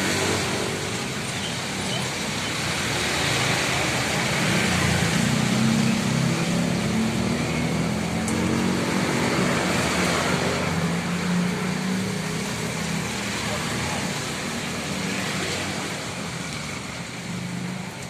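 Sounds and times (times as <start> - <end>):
rain and wet road noise: 0.0 - 18.0.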